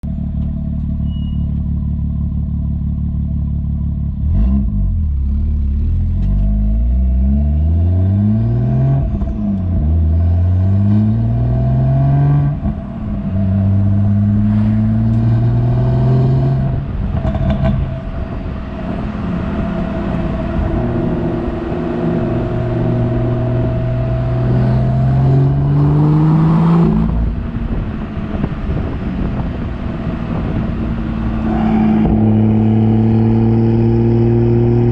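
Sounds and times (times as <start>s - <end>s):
car engine revving through gears: 4.2s - 34.9s.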